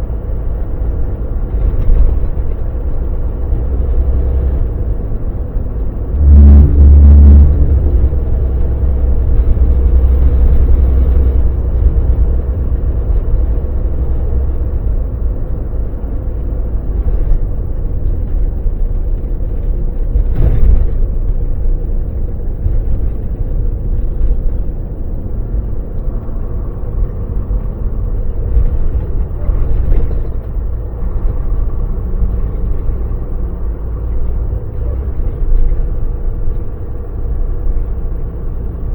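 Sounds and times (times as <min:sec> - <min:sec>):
road rumble: 0:00.0 - 0:38.9
truck diesel engine running: 0:00.0 - 0:38.9.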